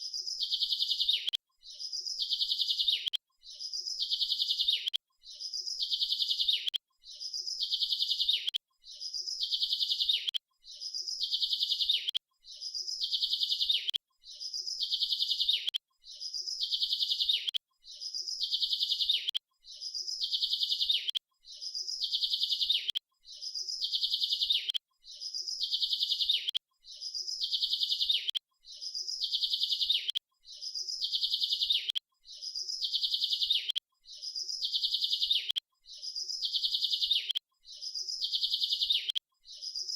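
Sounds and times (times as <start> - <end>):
bird chirping in fast trills: 0.0 - 39.9.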